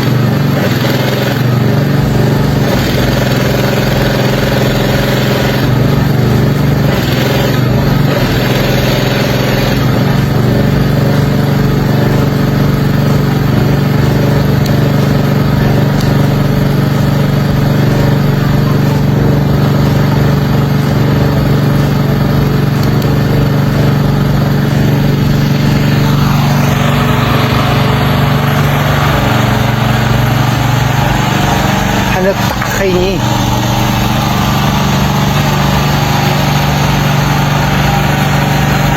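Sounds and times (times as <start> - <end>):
engine running steadily: 0.0 - 38.9
hissing noise: 7.7 - 38.9.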